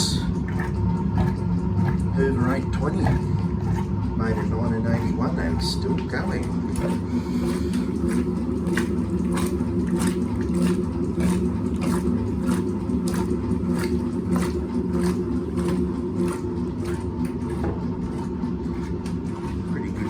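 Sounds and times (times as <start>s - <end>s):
washing machine motor hum: 0.0s - 20.0s
water swishing in washing machine: 0.0s - 20.0s.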